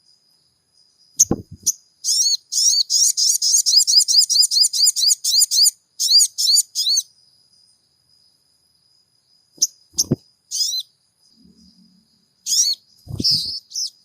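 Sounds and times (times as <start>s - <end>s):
bird chirping: 0.8s - 14.0s.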